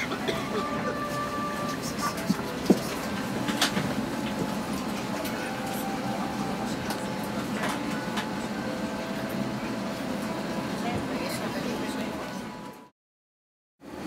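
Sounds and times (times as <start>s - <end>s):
aircraft cabin hum: 0.0s - 11.7s
passenger chatter: 0.0s - 12.9s.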